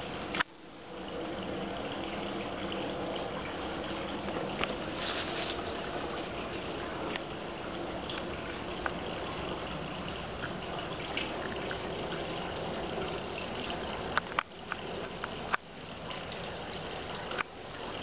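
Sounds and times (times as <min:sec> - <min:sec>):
fountain water trickling and splashing: 0:00.0 - 0:18.0.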